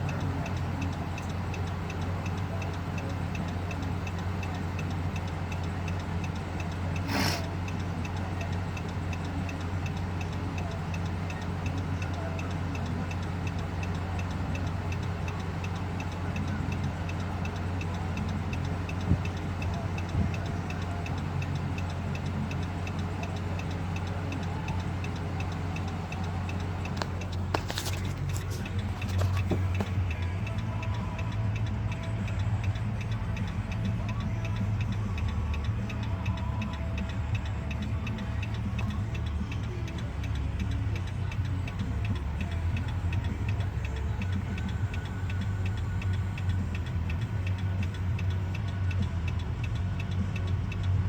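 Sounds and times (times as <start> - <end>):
car engine idling: 0.0 - 51.0
car flasher relay ticking: 0.0 - 51.0.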